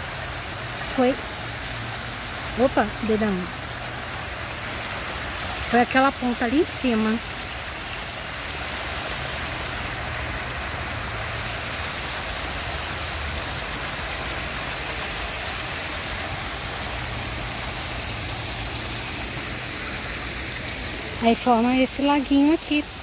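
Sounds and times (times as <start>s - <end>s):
water splashing over rocks: 0.0s - 23.0s.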